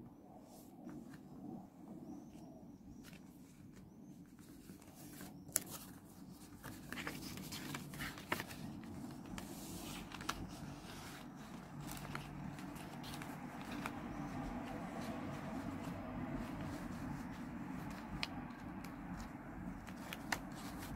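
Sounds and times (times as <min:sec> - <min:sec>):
paper rustling and scraping: 0:03.0 - 0:20.9.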